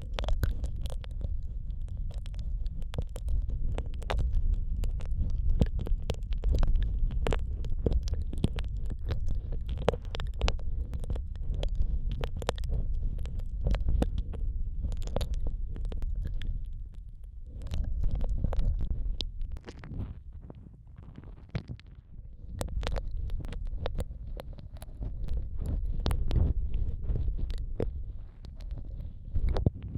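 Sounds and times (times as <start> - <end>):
wet mouth clicks and smacks: 0.0 - 20.0, 22.4 - 29.8
muffled low rumble: 0.0 - 29.9.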